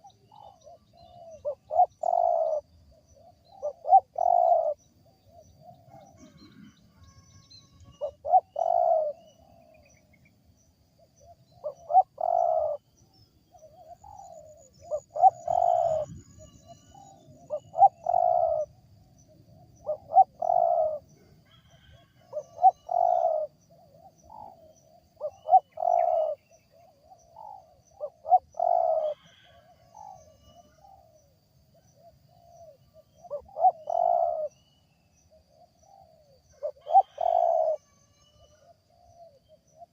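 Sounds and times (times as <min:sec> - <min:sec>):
dove cooing: 0:00.0 - 0:07.0, 0:07.9 - 0:09.8, 0:11.2 - 0:12.9, 0:13.5 - 0:31.2, 0:31.8 - 0:34.6, 0:35.5 - 0:39.9.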